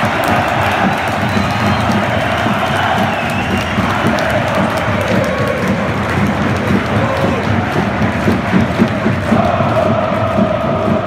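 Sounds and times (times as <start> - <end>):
football crowd singing and cheering: 0.0 - 11.0.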